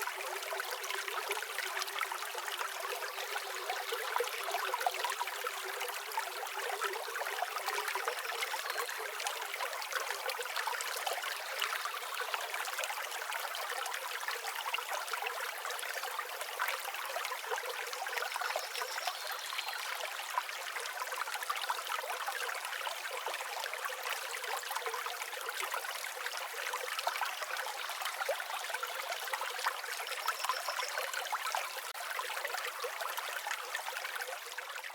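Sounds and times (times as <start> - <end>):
water trickling and babbling: 0.0 - 34.9.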